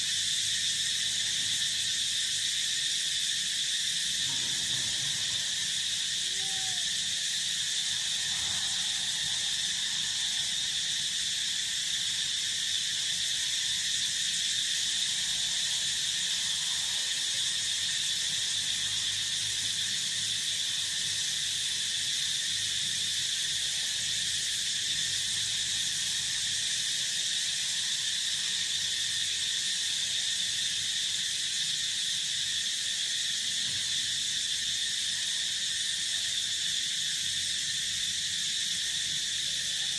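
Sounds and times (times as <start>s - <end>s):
field insects chorus: 0.0s - 39.9s.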